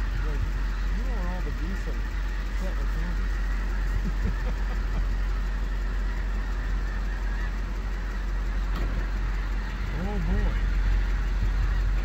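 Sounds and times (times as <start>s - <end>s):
geese calling: 0.0s - 12.0s
low rumble: 0.0s - 12.0s.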